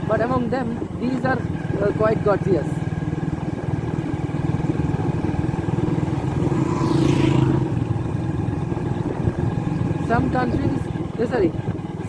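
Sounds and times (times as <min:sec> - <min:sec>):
small vehicle engine running: 0:00.0 - 0:12.0.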